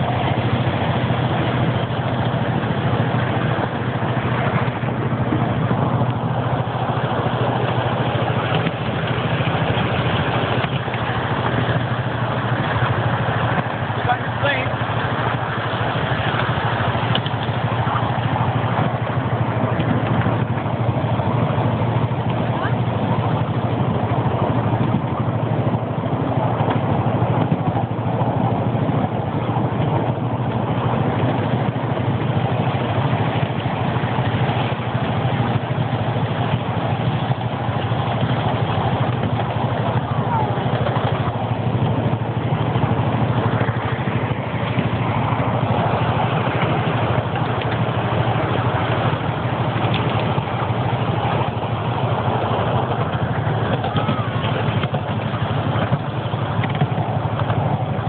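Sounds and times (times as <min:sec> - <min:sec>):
miniature train engine drone: 0:00.0 - 0:58.0.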